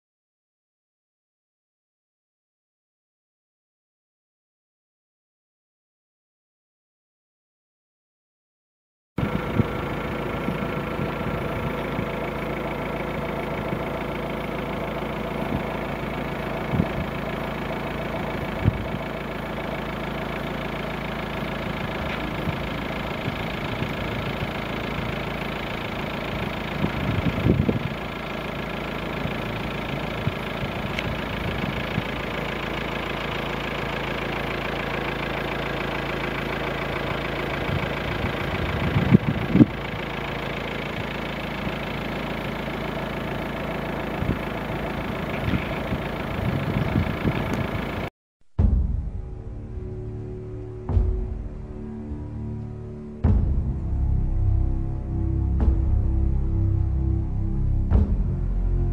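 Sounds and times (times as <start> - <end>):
car engine running: 9.2 - 48.1, 48.7 - 58.9.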